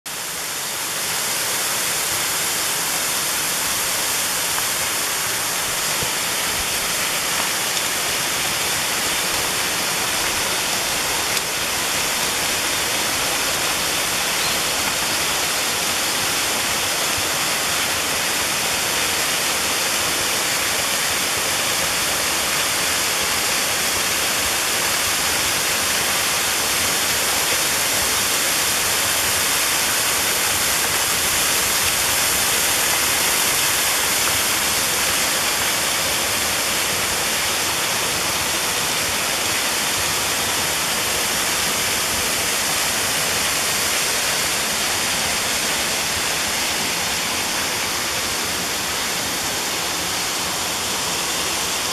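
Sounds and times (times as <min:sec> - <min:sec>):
waterfall rushing: 0:00.1 - 0:51.9.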